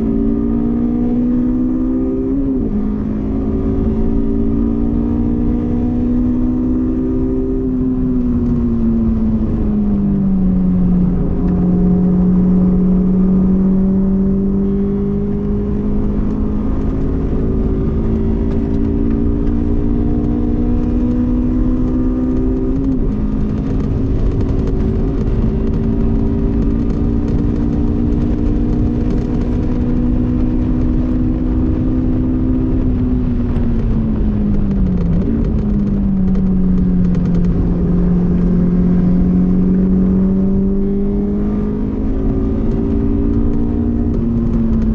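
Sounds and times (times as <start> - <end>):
car engine at high revs: 0.0 - 44.9.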